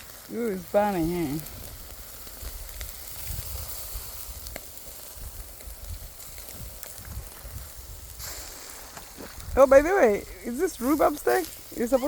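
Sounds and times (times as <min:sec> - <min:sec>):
steak sizzling on grill: 0:00.0 - 0:12.0.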